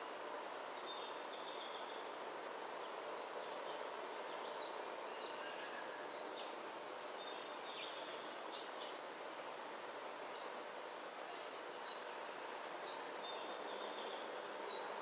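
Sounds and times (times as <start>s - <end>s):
outdoor background noise: 0.0s - 15.0s
songbirds chirping: 0.0s - 15.0s.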